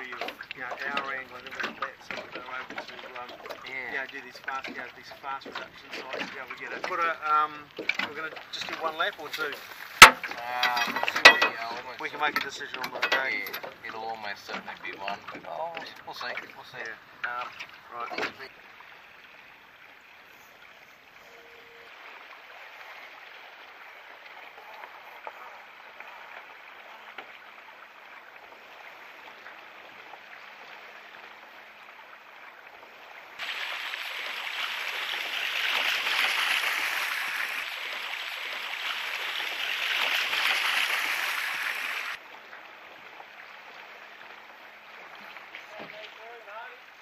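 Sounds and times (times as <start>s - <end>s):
water lapping and gurgling: 0.0s - 47.0s.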